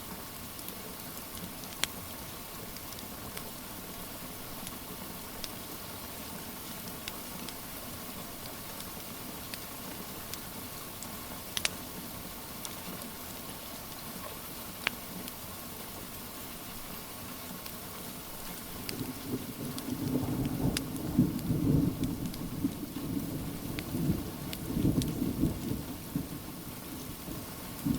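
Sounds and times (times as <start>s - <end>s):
steady rain hiss: 0.0s - 27.9s
wood fire crackling: 0.1s - 27.9s.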